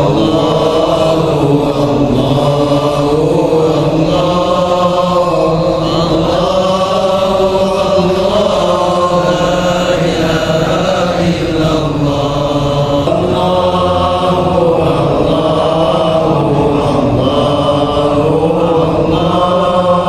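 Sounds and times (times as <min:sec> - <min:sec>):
devotional chanting voices: 0:00.0 - 0:20.0.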